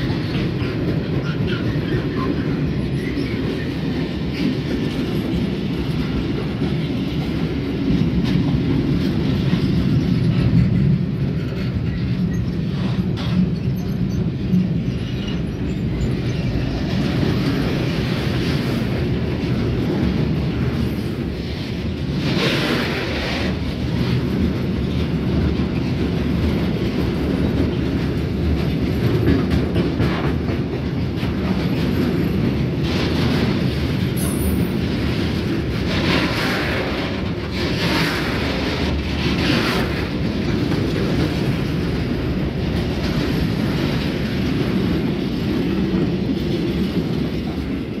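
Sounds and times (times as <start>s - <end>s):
freight train rumbling: 0.0s - 48.0s
wheels clattering over rail joints: 0.0s - 48.0s.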